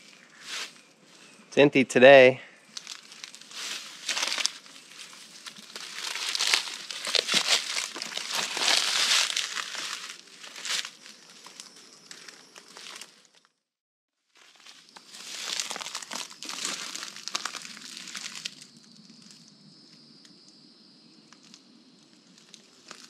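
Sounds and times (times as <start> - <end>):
leaves and twigs crunching underfoot: 0.0 - 13.6, 14.2 - 19.5, 21.3 - 23.0.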